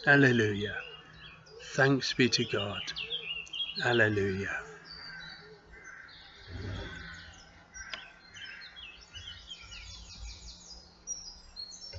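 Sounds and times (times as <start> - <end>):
birds chirping and trilling: 0.0 - 11.9.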